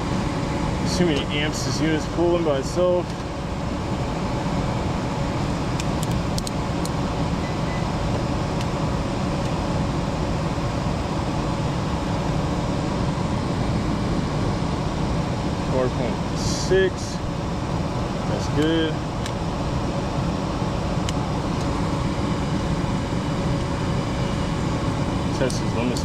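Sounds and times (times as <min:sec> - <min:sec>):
furnace blower and burner rushing: 0:00.0 - 0:26.0.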